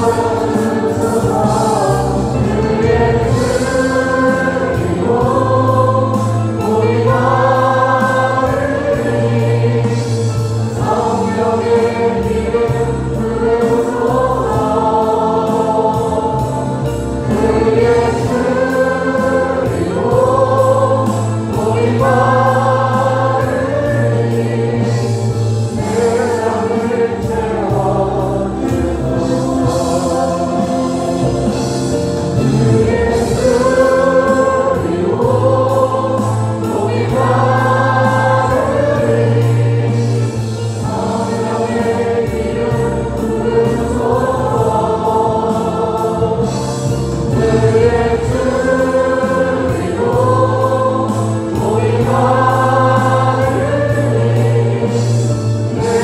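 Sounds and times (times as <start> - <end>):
choir singing a gospel song: 0.0 - 56.0.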